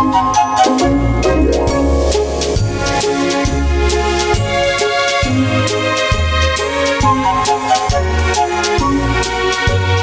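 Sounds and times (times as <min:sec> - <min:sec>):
music with bass and drum beat: 0:01.2 - 0:10.0.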